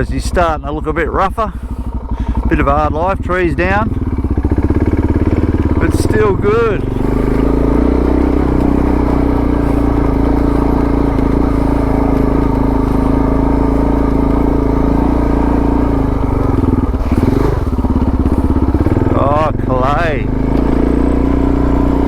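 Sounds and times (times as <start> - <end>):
motorcycle engine climbing: 0.0 - 22.0.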